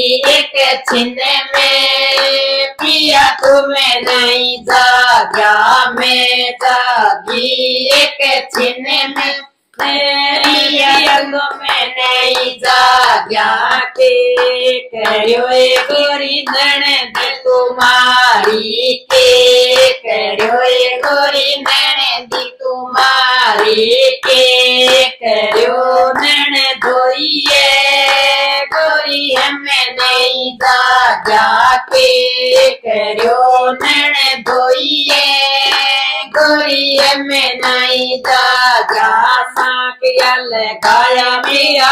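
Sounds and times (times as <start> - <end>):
hand claps: 0.0 - 41.9
women singing folk song: 0.0 - 41.9.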